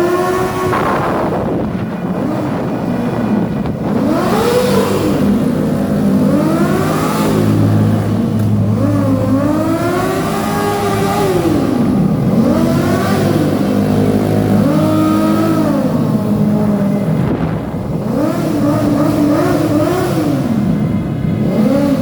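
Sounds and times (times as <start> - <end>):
low engine hum: 0.0 - 22.0
motorcycle engine revving: 0.0 - 22.0.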